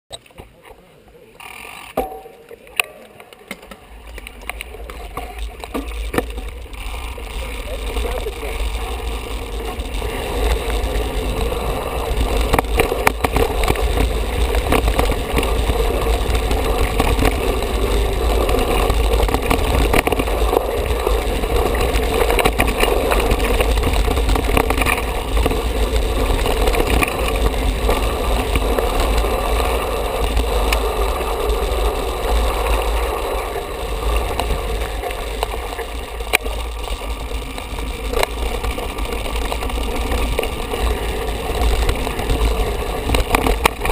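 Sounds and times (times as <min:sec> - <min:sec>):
bike tyres knocking over stones: 0:01.9 - 0:43.9
wind and trail rumble: 0:03.8 - 0:43.9.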